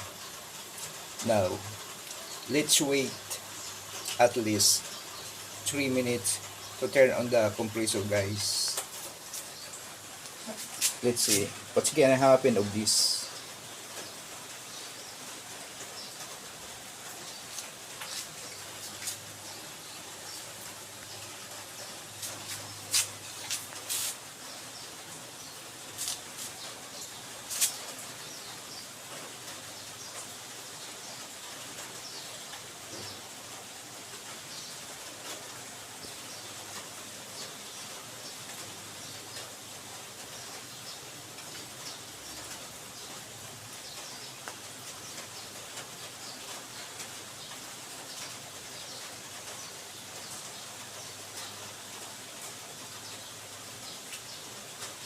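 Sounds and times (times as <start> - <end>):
air conditioner fan hissing: 0.0 - 55.0.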